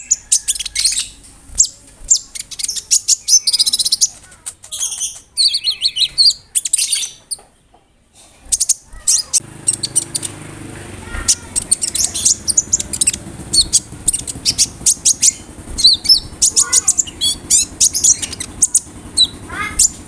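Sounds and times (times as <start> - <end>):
sunbird singing chirps and trills: 0.0 - 7.5, 8.4 - 20.0.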